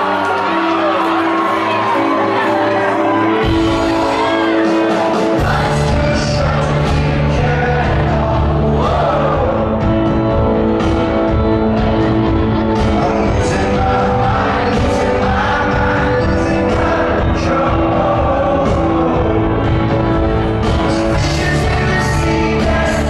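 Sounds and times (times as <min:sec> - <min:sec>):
person singing: 0:00.0 - 0:23.0
rock band playing live: 0:00.0 - 0:23.0.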